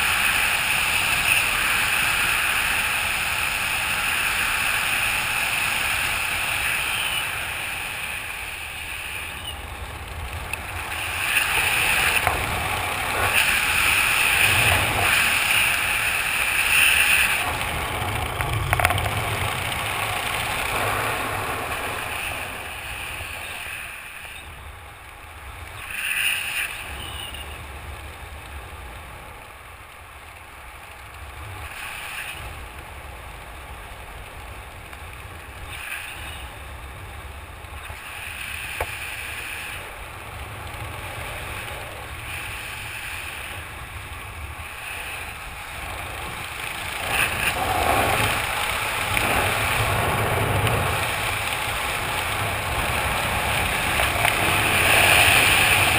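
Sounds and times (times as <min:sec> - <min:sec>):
wind rushing over microphone: 0:00.0 - 0:28.8, 0:35.1 - 0:55.9.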